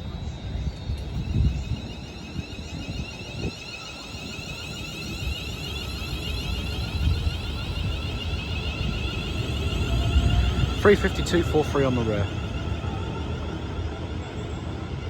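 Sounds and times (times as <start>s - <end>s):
train traction motors whining: 0.0s - 15.0s.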